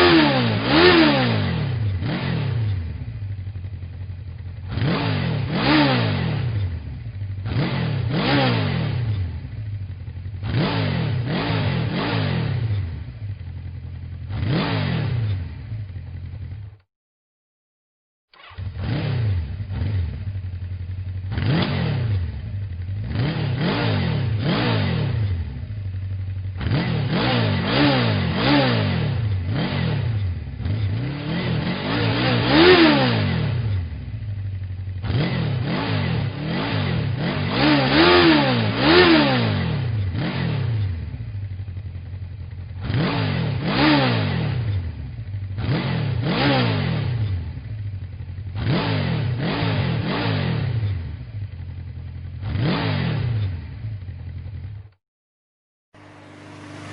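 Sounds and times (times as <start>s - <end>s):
motorcycle engine revving: 0.0s - 16.9s, 18.3s - 55.0s, 56.0s - 56.9s.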